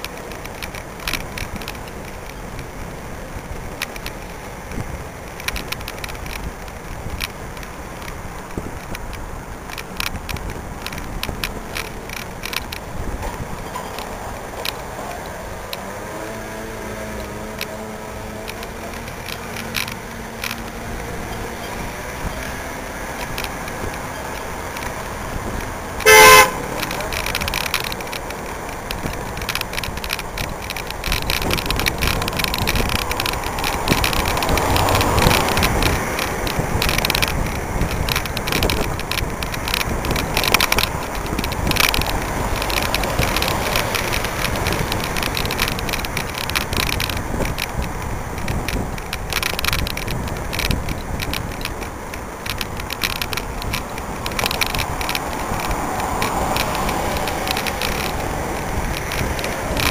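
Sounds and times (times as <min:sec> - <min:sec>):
bike rattles and clicks: 0:00.0 - 0:59.9
street traffic noise: 0:00.0 - 0:59.9
wind rumbling on microphone: 0:00.0 - 0:59.9.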